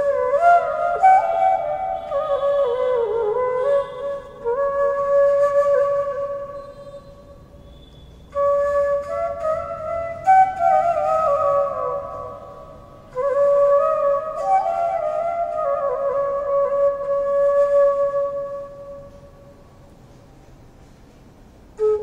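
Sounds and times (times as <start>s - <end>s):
bamboo flute melody: 0.0s - 19.8s, 21.7s - 22.0s.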